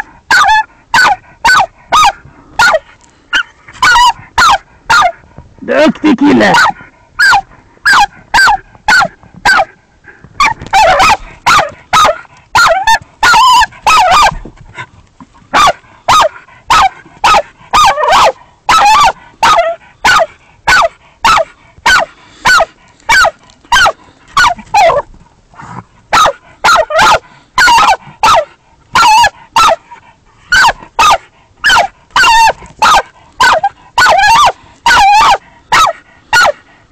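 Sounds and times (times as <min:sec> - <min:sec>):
dog barking: 0:00.0 - 0:05.2, 0:06.4 - 0:09.8, 0:10.4 - 0:14.4, 0:15.5 - 0:25.1, 0:26.1 - 0:29.9, 0:30.5 - 0:36.6.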